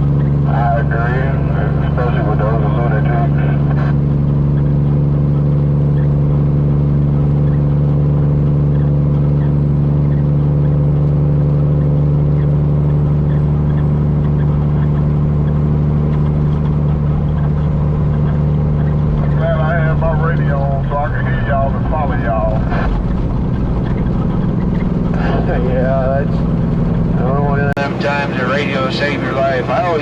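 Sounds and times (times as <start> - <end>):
truck diesel engine drone: 0.0 - 30.0.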